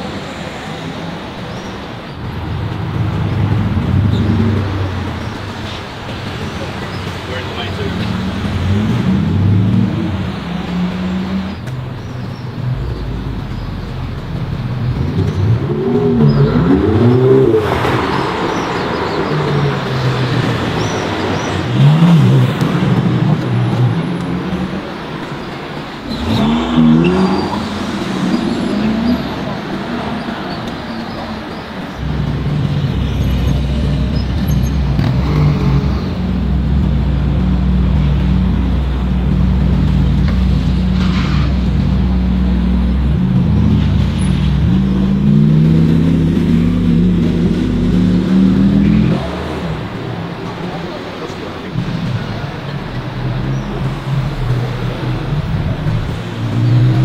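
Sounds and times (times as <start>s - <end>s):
sports car engines accelerating: 0.0s - 57.0s.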